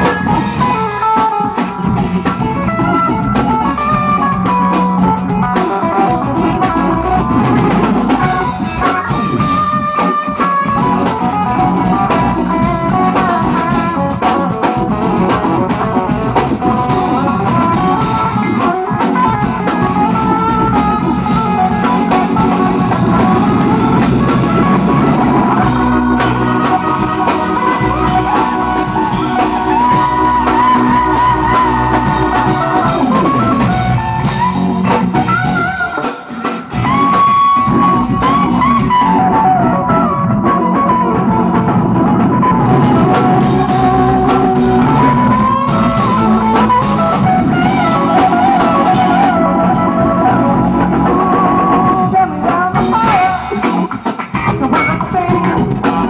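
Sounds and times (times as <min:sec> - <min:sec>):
drum kit steady beat: 0:00.0 - 0:56.0
live rock band playing: 0:00.0 - 0:56.0.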